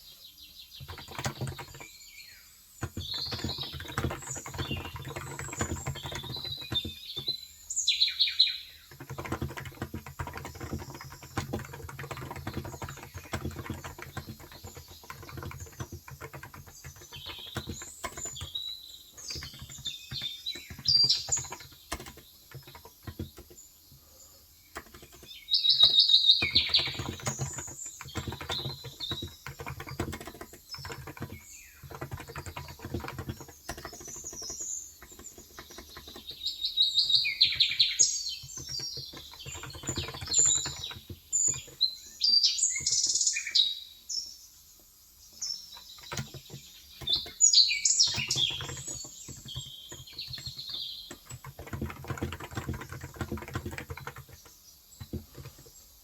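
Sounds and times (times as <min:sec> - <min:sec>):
birds chirping and singing: 0:00.0 - 0:44.4, 0:45.3 - 0:55.9
keyboard typing clacks: 0:00.8 - 0:01.9, 0:02.8 - 0:07.6, 0:08.8 - 0:24.0, 0:24.7 - 0:43.2, 0:45.8 - 0:56.0.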